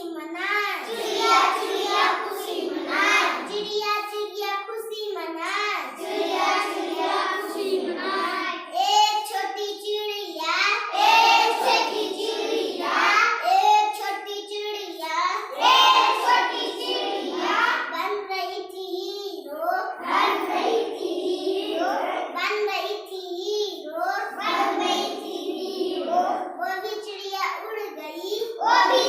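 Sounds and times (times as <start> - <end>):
child singing: 0.0 - 29.0.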